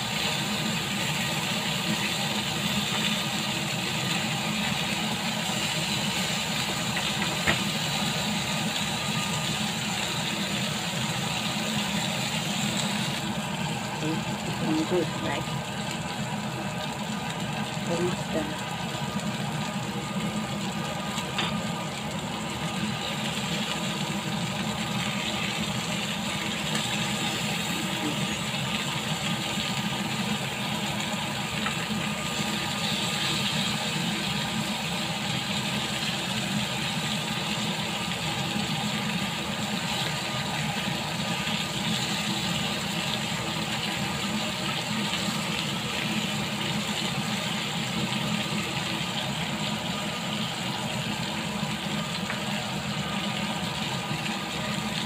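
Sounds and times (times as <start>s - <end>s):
meat sizzling in a grill pan: 0.0s - 55.0s.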